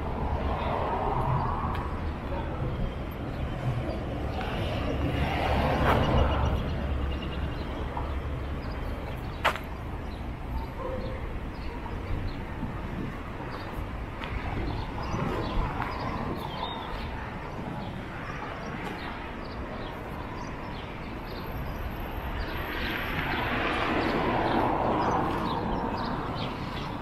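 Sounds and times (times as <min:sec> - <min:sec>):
traffic hum: 0:00.0 - 0:27.0.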